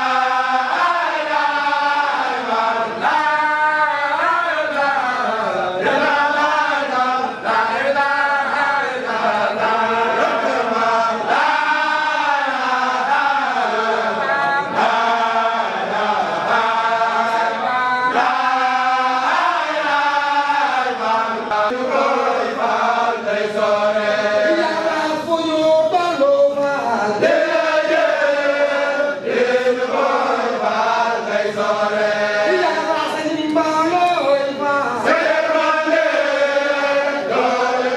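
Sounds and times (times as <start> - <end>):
men chanting in unison: 0.0 - 37.9.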